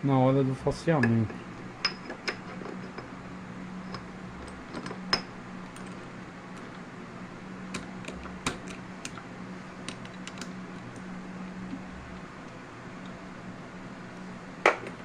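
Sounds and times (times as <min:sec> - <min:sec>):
lathe running with low hum: 0:00.0 - 0:15.0.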